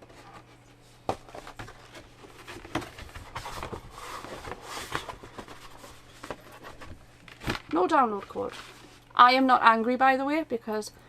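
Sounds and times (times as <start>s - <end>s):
paper and card rustling: 0.0s - 9.1s.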